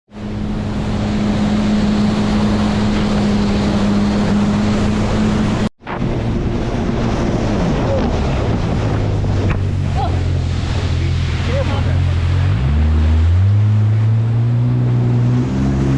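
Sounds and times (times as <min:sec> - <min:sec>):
jet ski engine running: 0:00.1 - 0:15.9
water rushing: 0:00.1 - 0:15.9
wind buffeting microphone: 0:00.4 - 0:13.2.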